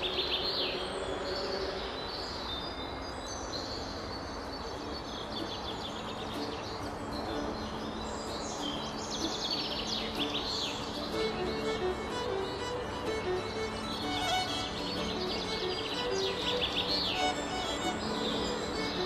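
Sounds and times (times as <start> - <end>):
songbirds chirping and trilling: 0.0 - 19.0
steady background hiss: 0.0 - 19.0.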